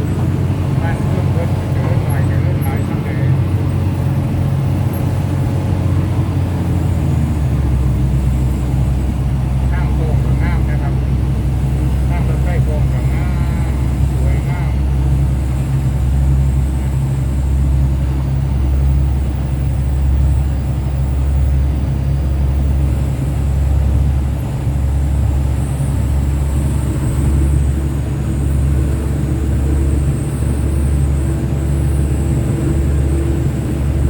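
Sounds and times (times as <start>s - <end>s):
diesel train rumbling: 0.0s - 34.0s.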